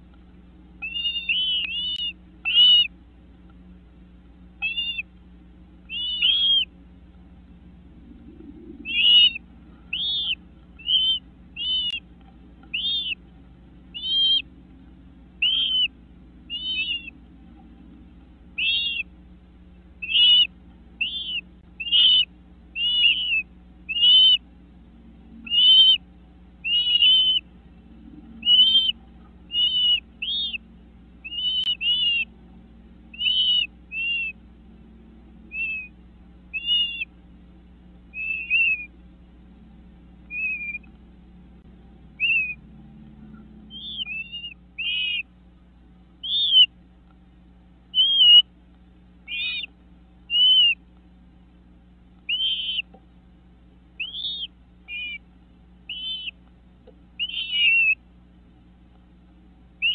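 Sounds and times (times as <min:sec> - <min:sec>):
birds calling with high notes: 0:00.0 - 0:59.0, 0:59.7 - 0:59.9.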